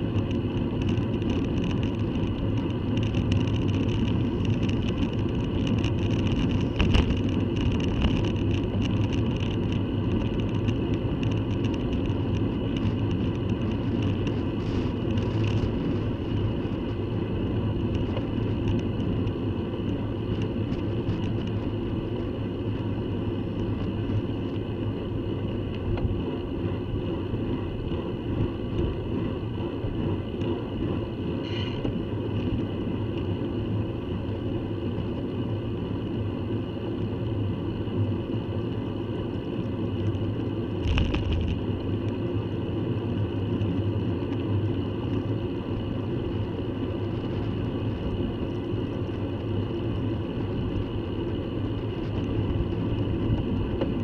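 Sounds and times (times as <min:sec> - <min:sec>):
bicycle road noise: 0:00.0 - 0:54.0
wind rush on microphone: 0:00.0 - 0:54.0.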